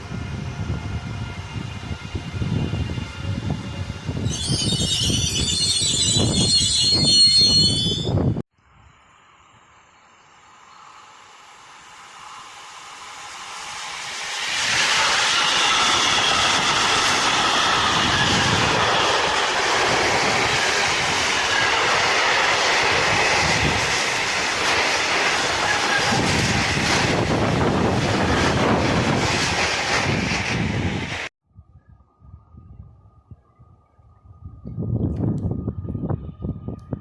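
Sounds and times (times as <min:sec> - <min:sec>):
train running: 0:00.0 - 0:08.4, 0:09.5 - 0:31.3
train whine: 0:00.0 - 0:31.3.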